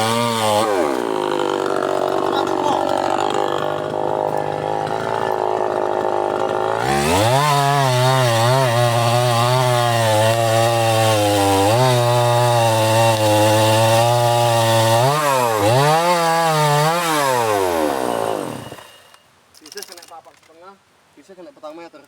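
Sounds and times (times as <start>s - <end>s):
chainsaw engine revving: 0.0s - 19.1s.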